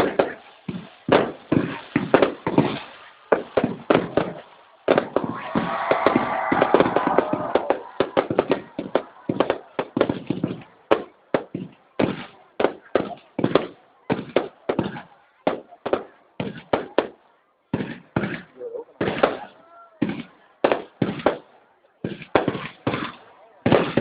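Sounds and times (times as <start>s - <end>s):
crackling firework shells: 0.0s - 24.0s
fireworks bangs: 0.0s - 24.0s.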